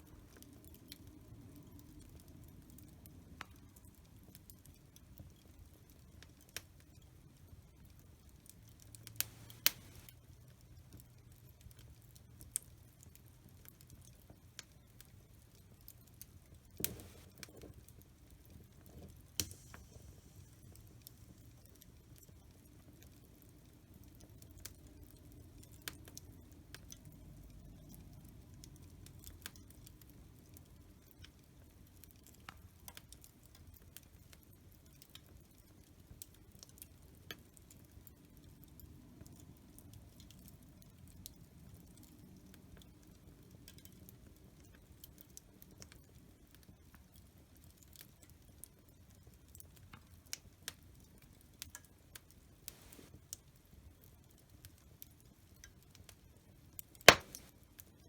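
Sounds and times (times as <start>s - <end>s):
low rumble of flames: 0.0s - 48.5s
wood fire crackling: 0.0s - 58.0s.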